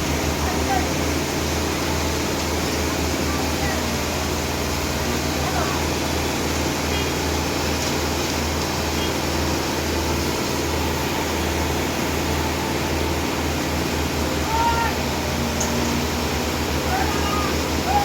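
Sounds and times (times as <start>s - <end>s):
machine drone with low hum: 0.0s - 18.0s.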